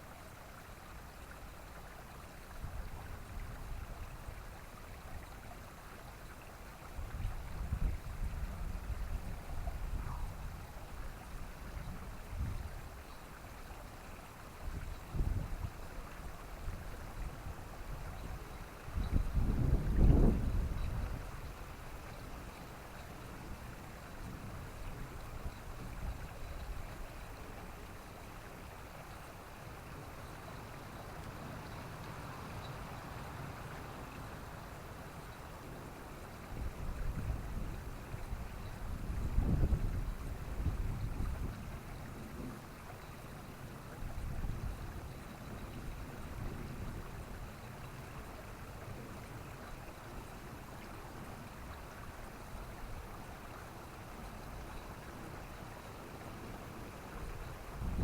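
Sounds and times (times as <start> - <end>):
rushing outdoor noise with rumble: 0.0 - 58.0.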